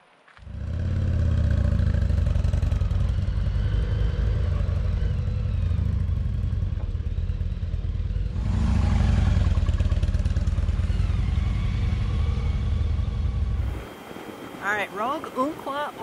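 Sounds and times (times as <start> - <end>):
motorcycle engines pulling away: 0.4 - 16.0
motorcycle riding past: 0.4 - 16.0.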